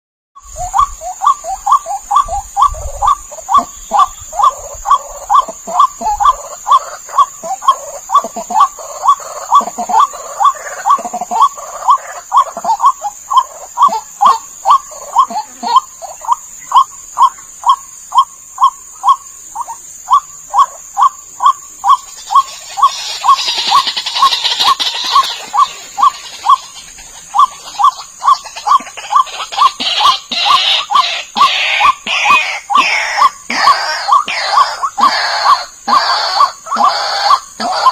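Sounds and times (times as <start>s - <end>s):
waterhen calling: 0.4s - 37.9s.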